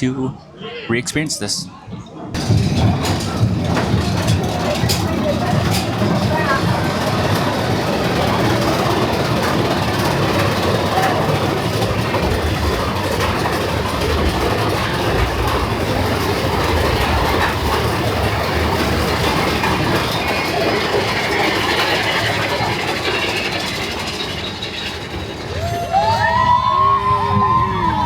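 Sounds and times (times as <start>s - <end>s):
roller coaster cars rolling and rattling: 1.7s - 28.0s.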